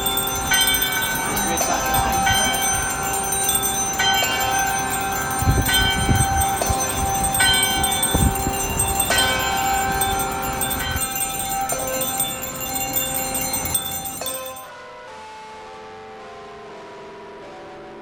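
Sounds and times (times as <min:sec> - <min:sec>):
low rumbles: 0:00.0 - 0:14.6
church bells tolling: 0:00.0 - 0:14.7.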